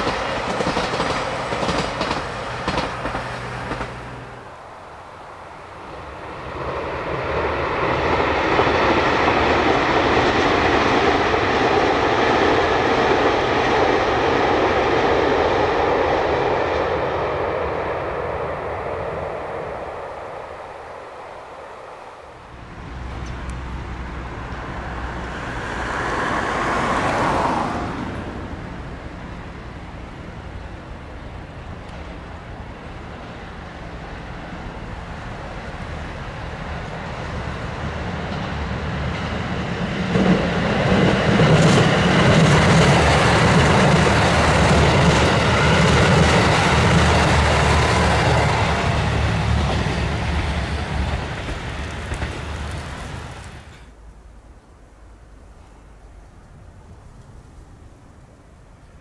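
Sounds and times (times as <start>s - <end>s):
passenger train running on rails: 0.0s - 59.0s.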